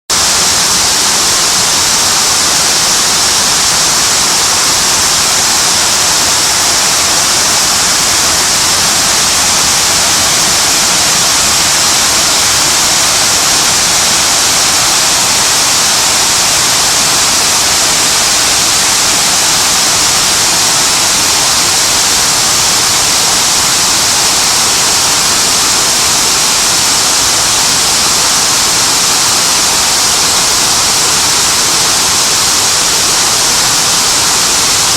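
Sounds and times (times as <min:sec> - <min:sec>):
water wall fountain rushing: 0:00.1 - 0:34.9.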